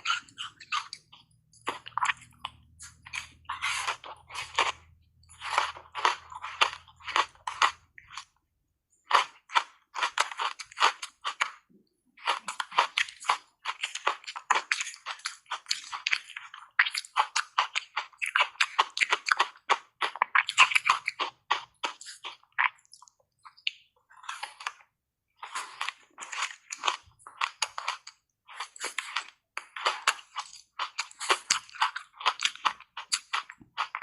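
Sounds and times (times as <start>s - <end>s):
ice being chewed: 0.0s - 8.4s, 9.0s - 34.0s.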